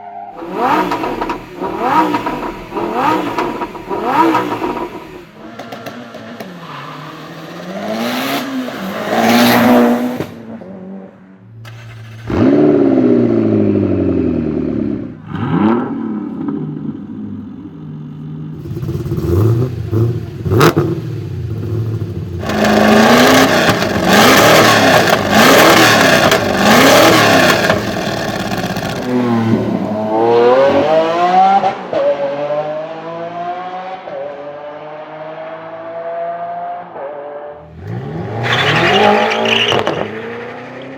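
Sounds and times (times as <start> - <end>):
supercar engine revving: 0.4 - 6.4, 11.7 - 17.5, 18.5 - 40.9.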